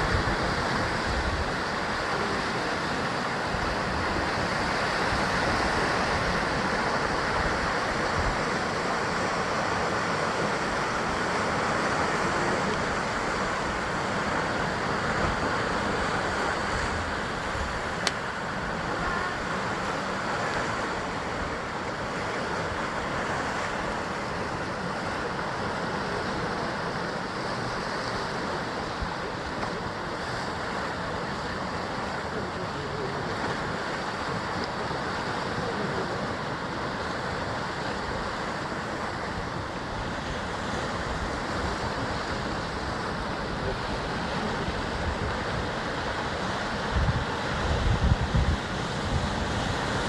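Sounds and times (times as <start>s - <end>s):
waves breaking on rocks: 0.0s - 50.0s.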